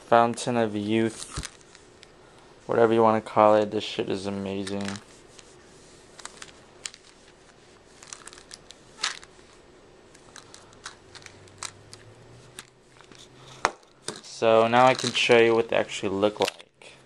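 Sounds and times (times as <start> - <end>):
plastic crinkling: 0.2 - 2.2, 4.4 - 9.6, 10.2 - 16.7.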